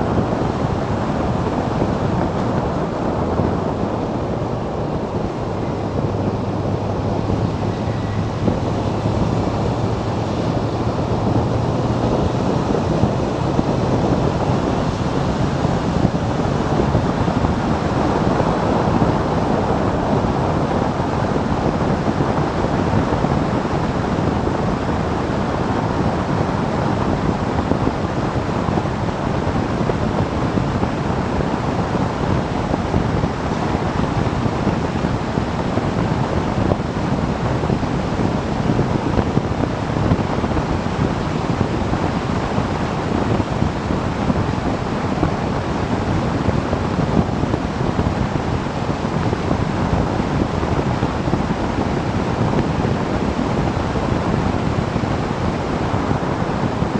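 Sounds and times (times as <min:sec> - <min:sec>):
motorcycle engine hum: 0:00.0 - 0:56.4
wind buffeting microphone: 0:00.0 - 0:56.9.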